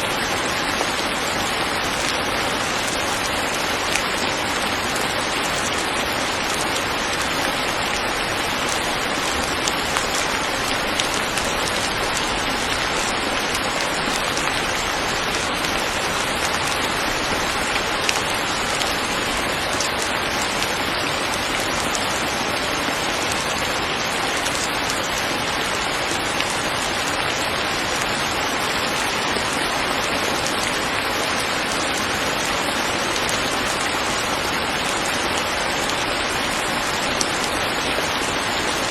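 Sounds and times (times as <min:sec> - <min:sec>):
raindrops ticking: 0:00.0 - 0:38.9
steady rain hiss: 0:00.0 - 0:38.9.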